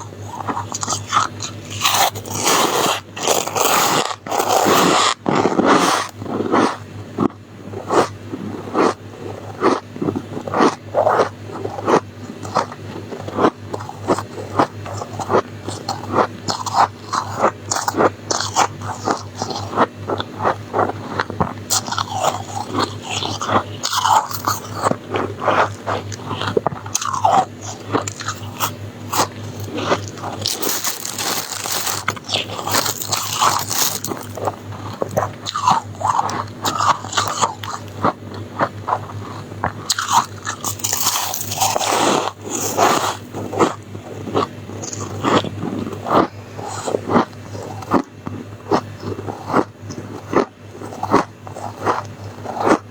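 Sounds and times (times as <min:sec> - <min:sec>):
crunching and chewing ice: 0:00.0 - 0:52.9.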